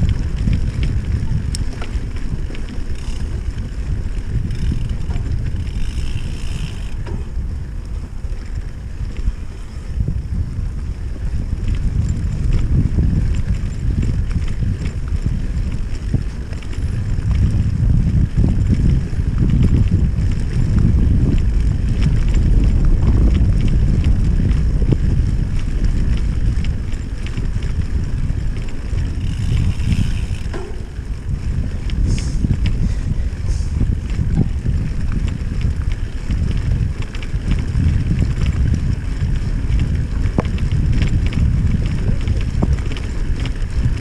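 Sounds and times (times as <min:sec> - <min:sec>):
bike clicks and rattles: 0:00.0 - 0:44.0
bike tyres rumbling on grass: 0:00.0 - 0:44.0
wind on microphone: 0:00.0 - 0:44.0.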